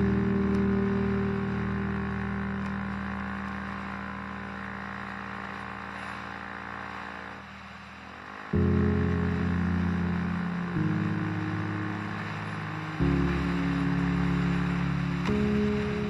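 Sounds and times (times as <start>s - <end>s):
scooter engine droning: 0.0s - 16.0s.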